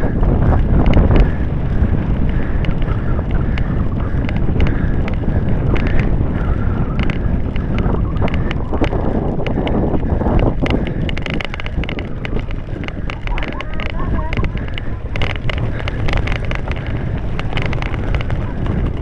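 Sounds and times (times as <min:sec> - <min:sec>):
wind buffeting microphone: 0:00.0 - 0:19.0
sharp clicks: 0:00.6 - 0:19.0.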